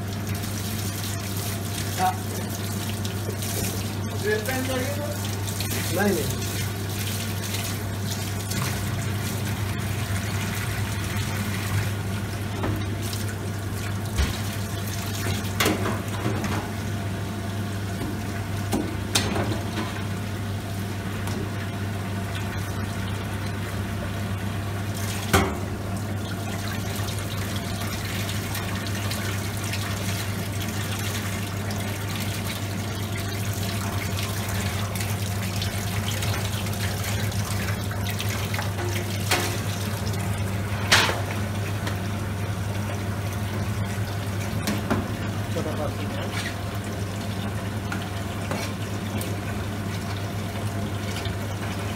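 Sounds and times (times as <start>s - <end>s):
tap water splashing into sink: 0.1s - 16.8s, 17.9s - 20.1s, 24.9s - 42.1s, 42.9s - 50.3s.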